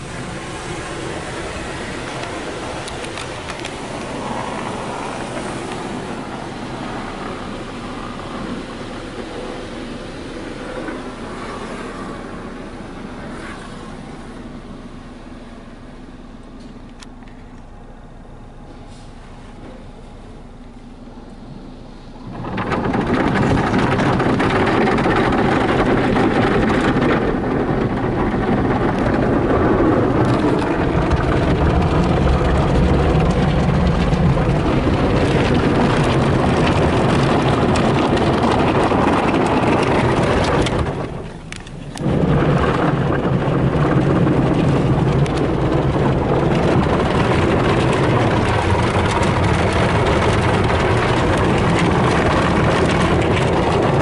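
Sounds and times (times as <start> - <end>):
water spraying on car: 0.0 - 54.0.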